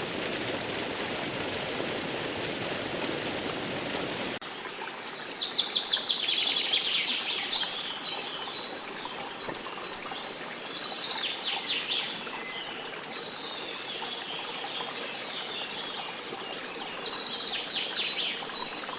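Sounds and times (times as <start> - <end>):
running water rushing: 0.0 - 18.9.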